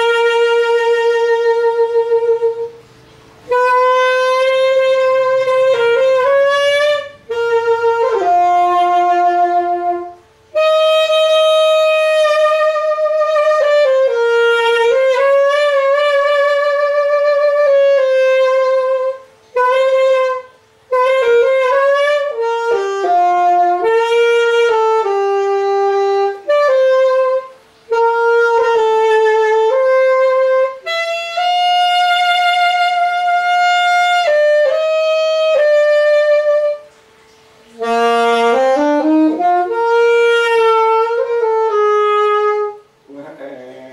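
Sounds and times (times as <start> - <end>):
alto saxophone melody: 0.0 - 43.9.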